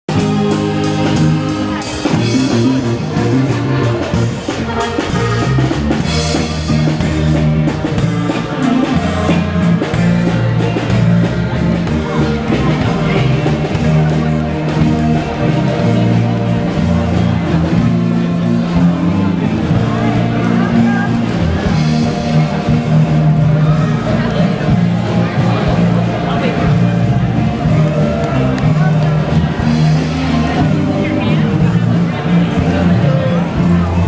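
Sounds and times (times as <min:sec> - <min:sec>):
steady drum beat: 0:00.1 - 0:34.0.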